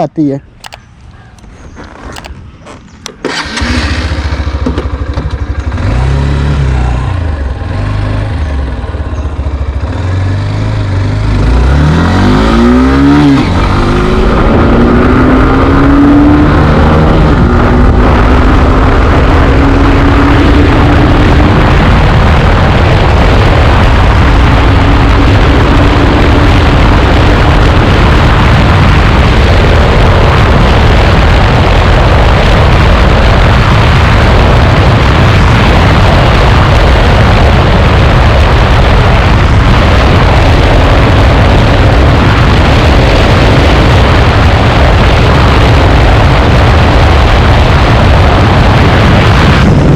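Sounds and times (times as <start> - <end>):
motorcycle engine pulling hard: 1.7 - 49.9
loud rushing and rumbling: 1.8 - 49.9.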